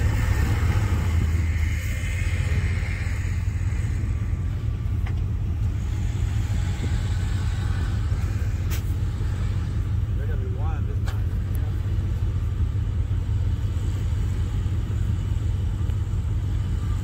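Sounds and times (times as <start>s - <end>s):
truck engine low rumble: 0.0s - 17.0s.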